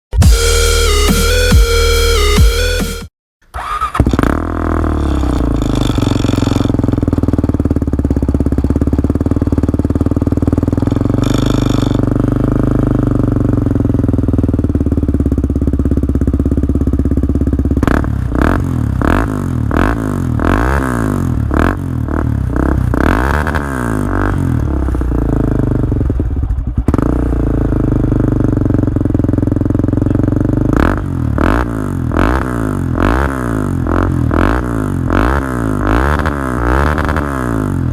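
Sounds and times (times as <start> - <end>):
quad engine idling and revving: 0.1 - 37.9.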